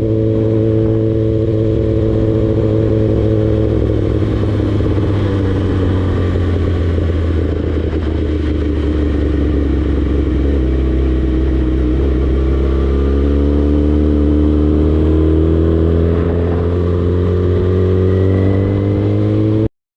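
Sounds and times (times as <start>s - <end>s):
motorcycle engine revving: 0.0s - 19.7s.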